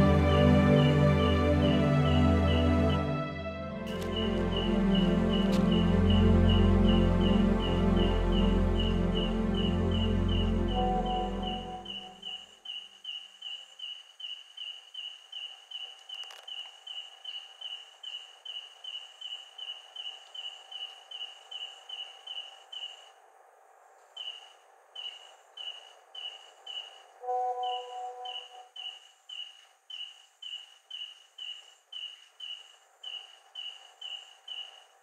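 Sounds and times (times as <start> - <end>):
cricket chirping: 3.8 - 35.0.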